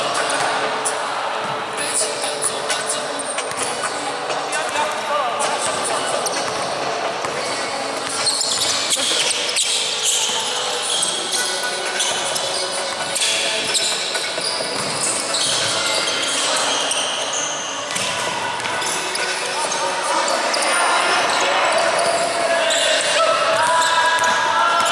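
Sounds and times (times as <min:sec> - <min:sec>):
scattered voices: 0:00.0 - 0:24.9
shoes squeaking: 0:00.0 - 0:24.9.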